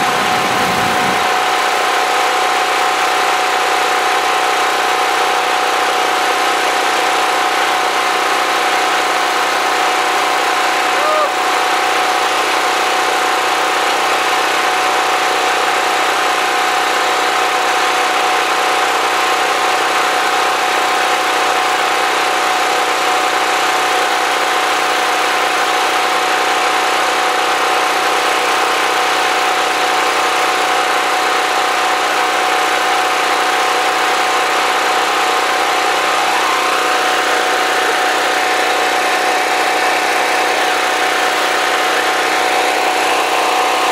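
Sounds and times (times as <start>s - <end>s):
generator engine running: 0.0s - 43.9s.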